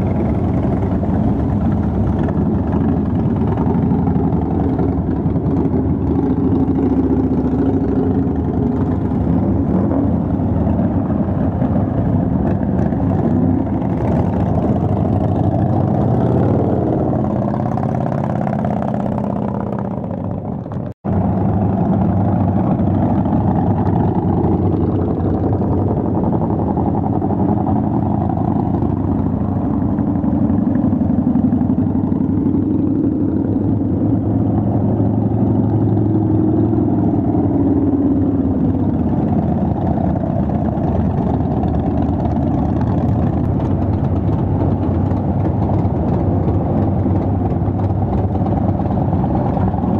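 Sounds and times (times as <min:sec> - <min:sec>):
motorcycles revving past: 0:00.0 - 0:49.9.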